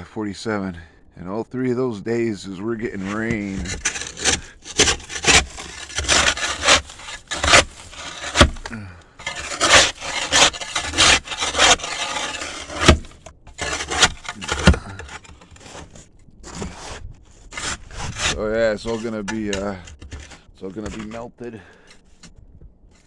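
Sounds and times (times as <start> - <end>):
ice scraping off a deck: 2.8 - 22.1.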